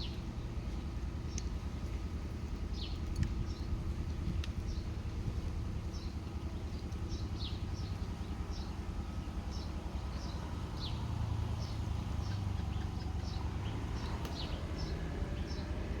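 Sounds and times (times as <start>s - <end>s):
small birds chirping: 0.0s - 5.1s, 5.7s - 16.0s.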